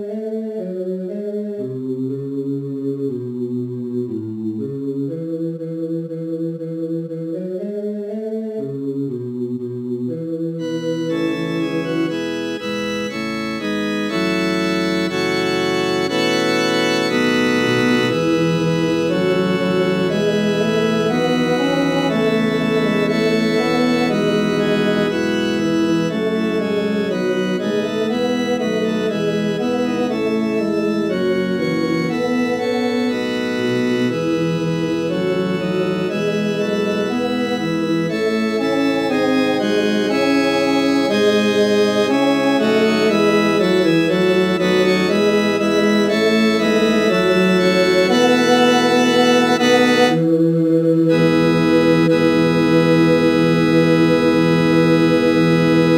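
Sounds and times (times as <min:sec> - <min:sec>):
synthesized organ chords: 0:00.0 - 0:55.9.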